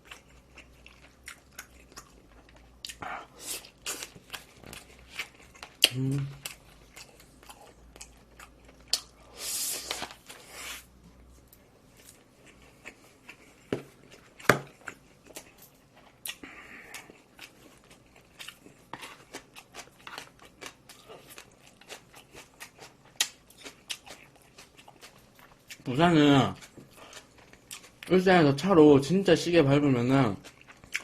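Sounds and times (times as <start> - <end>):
chewing and mouth sounds: 0.0 - 9.3, 12.0 - 28.2, 30.4 - 31.0.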